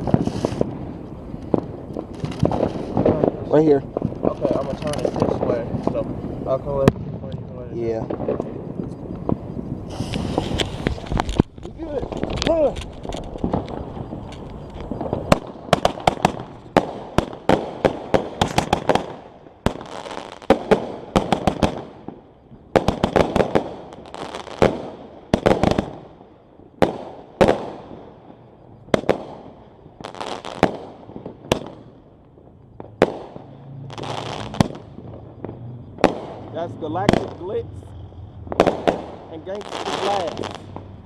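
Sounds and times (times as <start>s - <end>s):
fireworks crackling hiss: 0.0s - 41.0s
fireworks shots and bangs: 0.0s - 41.0s.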